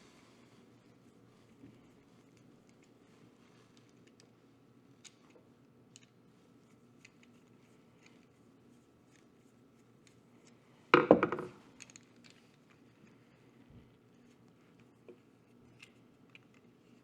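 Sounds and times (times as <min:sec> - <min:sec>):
faint clicks of small parts: 0:00.8 - 0:11.0, 0:11.7 - 0:17.0.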